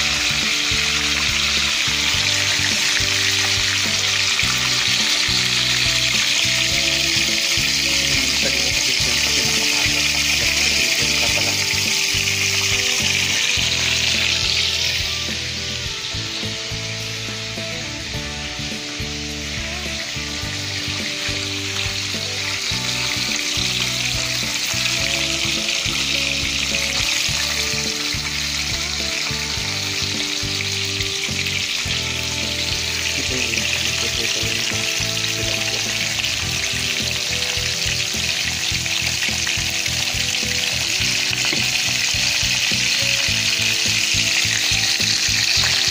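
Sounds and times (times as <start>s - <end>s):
background music: 0.0s - 45.9s
fish frying in hot oil: 0.0s - 45.9s.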